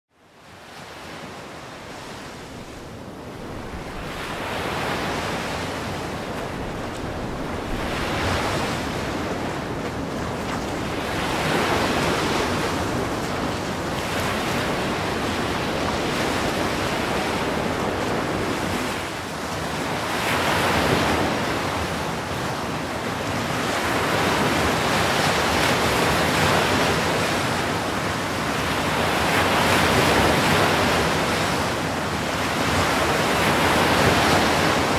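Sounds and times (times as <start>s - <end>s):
ocean waves crashing: 0.4s - 34.9s.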